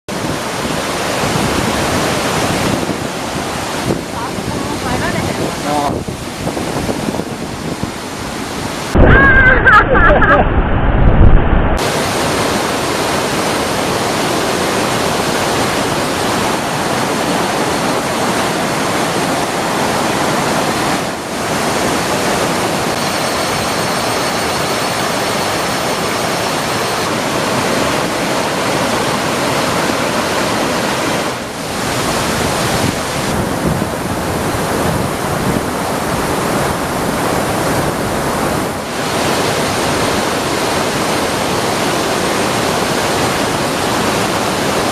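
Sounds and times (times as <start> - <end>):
waterfall rushing: 0.1 - 10.4, 11.8 - 44.9.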